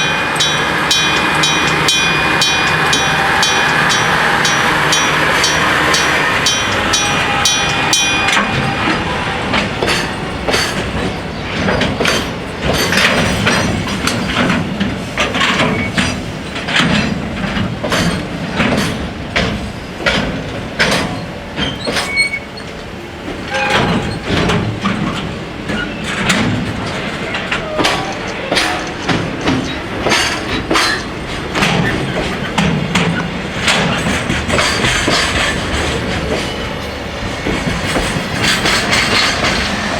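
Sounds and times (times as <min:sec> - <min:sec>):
wagon wheels clacking over rail joints: 0:00.0 - 0:39.9.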